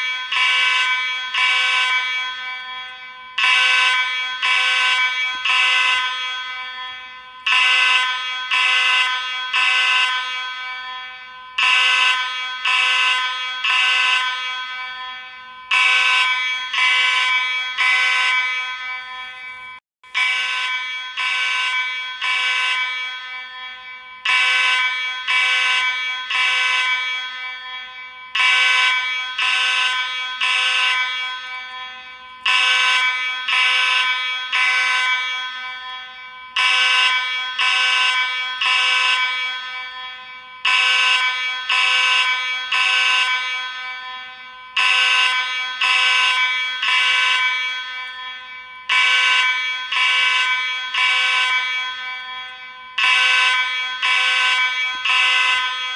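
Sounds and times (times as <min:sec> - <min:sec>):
fire alarm horn blasts: 0:00.0 - 0:55.9.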